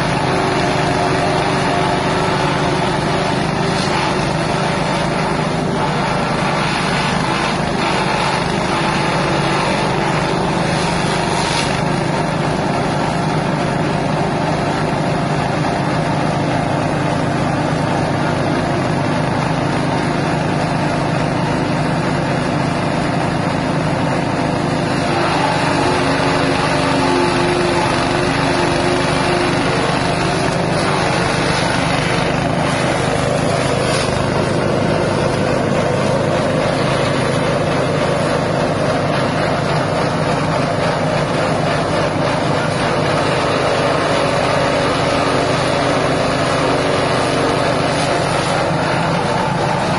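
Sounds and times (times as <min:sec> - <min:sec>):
petrol engine grass chopper running: 0:00.0 - 0:49.9.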